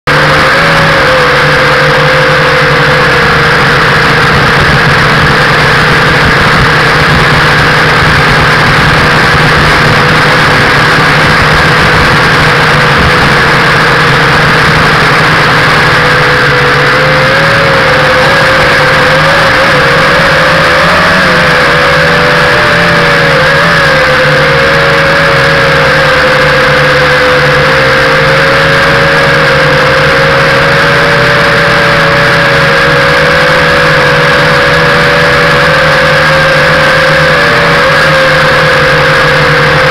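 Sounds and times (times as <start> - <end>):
quadcopter motors whining: 0.1 - 39.9.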